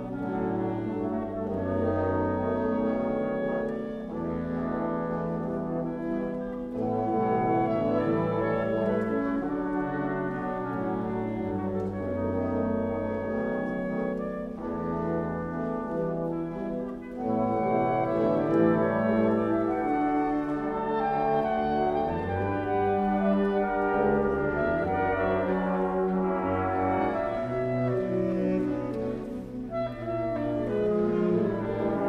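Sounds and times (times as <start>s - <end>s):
symphony orchestra playing: 0.0s - 32.0s.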